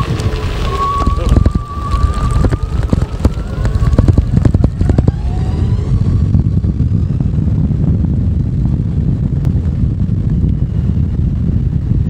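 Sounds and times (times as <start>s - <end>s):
electric motor whine: 0.0s - 11.8s
motorcycle riding rumble: 0.0s - 12.0s.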